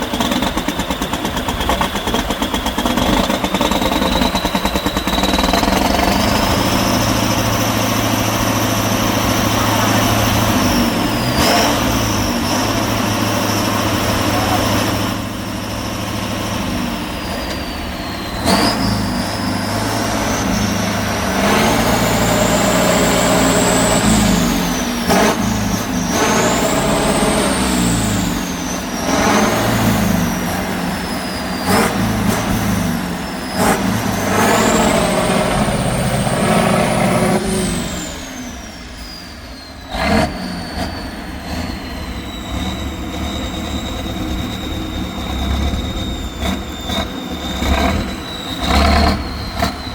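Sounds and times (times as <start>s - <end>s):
high engine whine: 0.0s - 49.9s
truck engine revving hard: 0.0s - 49.9s.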